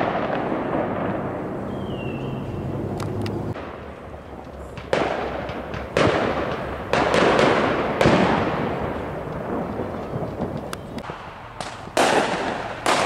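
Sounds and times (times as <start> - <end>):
fireworks bursting with loud bangs: 0.0 - 2.2, 3.5 - 13.0.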